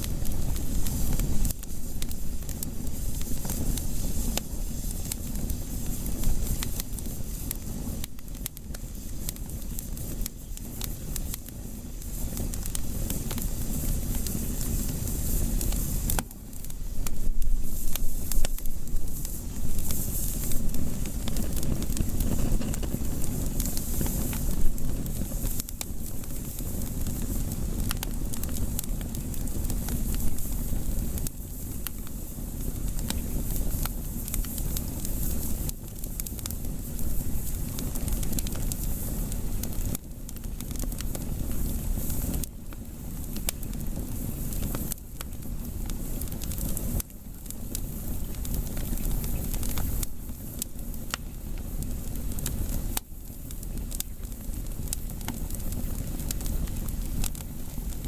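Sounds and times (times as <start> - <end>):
steady hiss and low rumble: 0.0 - 58.0
wood fire crackling and popping: 0.0 - 58.0.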